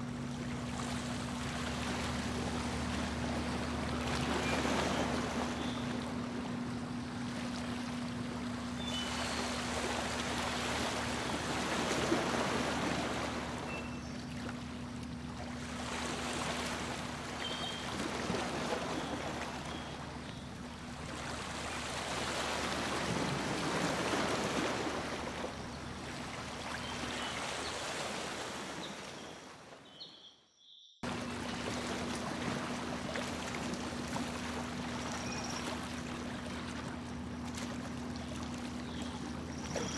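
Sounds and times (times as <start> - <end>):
low engine hum: 0.0 - 29.1, 31.0 - 39.9
water rushing along boat hull: 0.0 - 29.8, 31.0 - 39.9.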